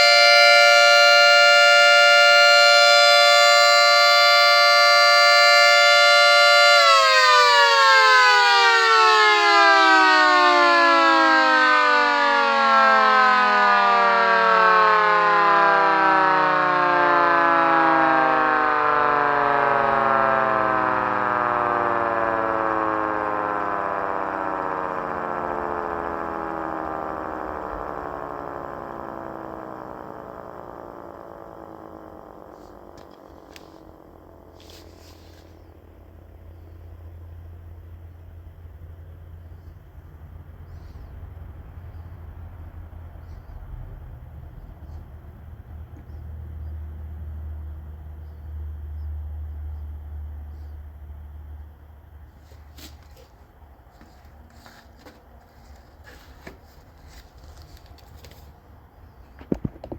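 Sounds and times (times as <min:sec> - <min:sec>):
siren winding down: 0:00.0 - 0:59.9.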